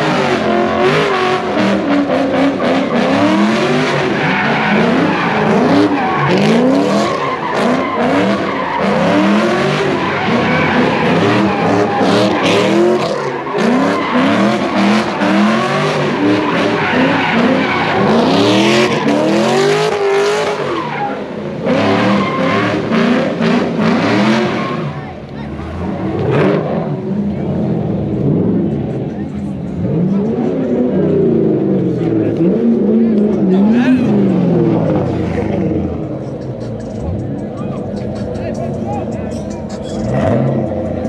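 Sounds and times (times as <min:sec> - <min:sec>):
car engines revving: 0:00.0 - 0:41.0
tyres skidding and squealing: 0:00.0 - 0:41.0.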